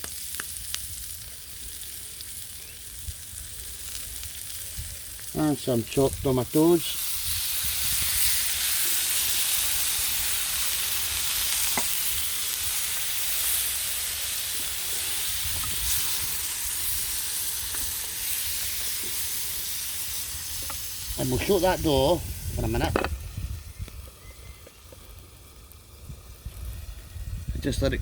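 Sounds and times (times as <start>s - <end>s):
onions and tomatoes sizzling in pan: 0.0s - 28.0s.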